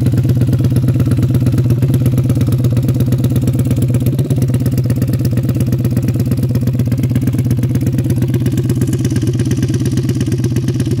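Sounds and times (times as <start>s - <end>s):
quad engine idling: 0.0s - 11.0s.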